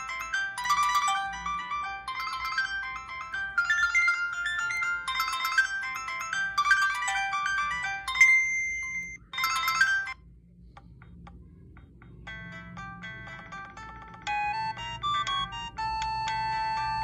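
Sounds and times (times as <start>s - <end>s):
phone ringtone melody: 0.0s - 17.0s.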